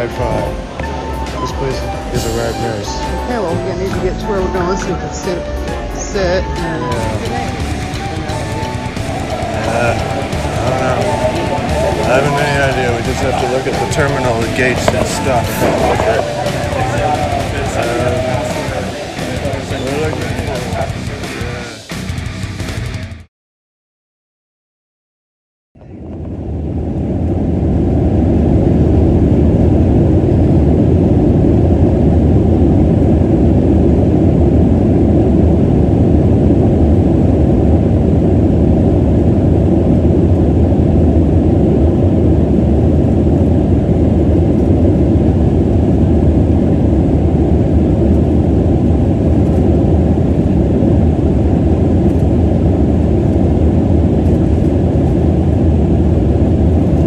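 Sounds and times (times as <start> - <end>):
jet engine noise: 0.0 - 22.6, 25.8 - 57.0.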